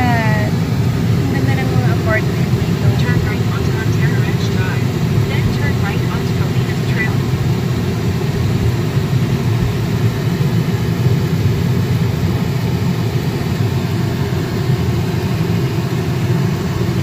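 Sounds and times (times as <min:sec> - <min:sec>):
car engine and tyre rumble: 0:00.1 - 0:17.0.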